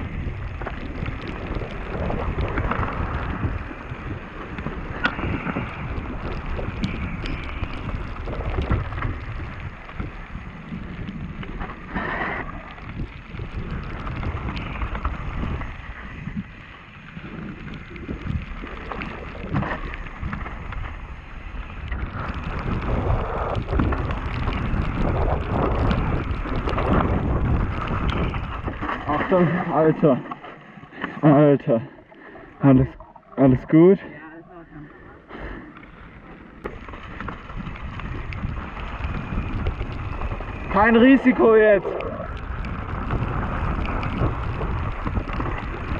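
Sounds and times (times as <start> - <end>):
wind rushing over microphone: 0.0 - 30.6, 31.5 - 45.9
clicks and rattles of stones and bike: 0.0 - 45.9.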